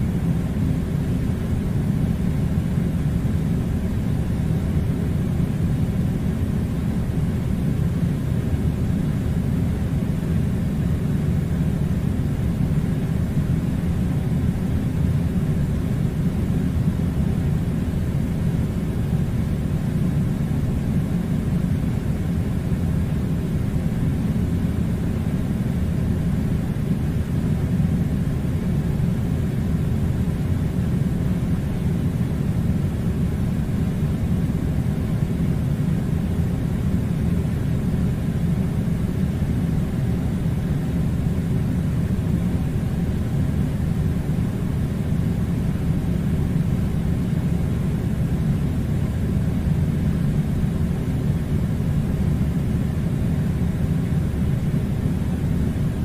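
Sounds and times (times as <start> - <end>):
air conditioner blowing air: 0.0 - 56.0.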